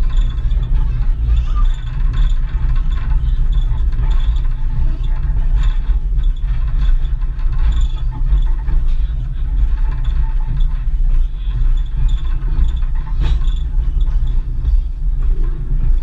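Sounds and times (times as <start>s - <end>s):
train car rumbling on rails: 0.0s - 16.0s.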